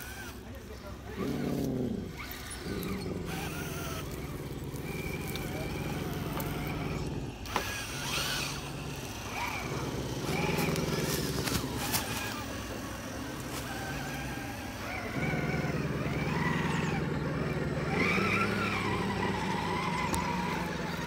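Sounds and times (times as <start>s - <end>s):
rc truck electric motors whining: 0.0s - 21.0s.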